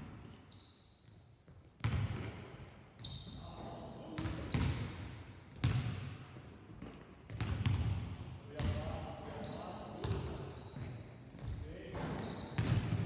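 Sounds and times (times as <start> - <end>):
sneakers squeaking on court: 0.0 - 2.4, 3.0 - 13.0
basketballs bouncing on hall floor: 0.0 - 13.0.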